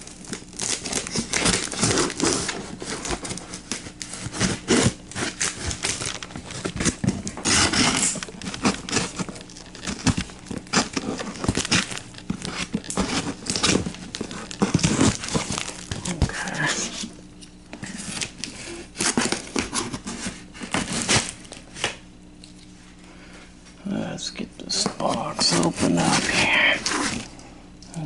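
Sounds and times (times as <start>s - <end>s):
cardboard crinkling and scraping: 0.0s - 22.0s, 24.6s - 27.3s
packing tape tearing: 0.0s - 22.6s.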